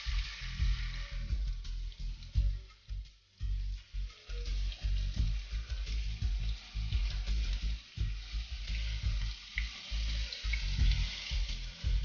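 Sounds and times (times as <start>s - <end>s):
background music with pulsing bass: 0.0s - 12.0s
tofu sizzling in oil: 0.0s - 12.0s.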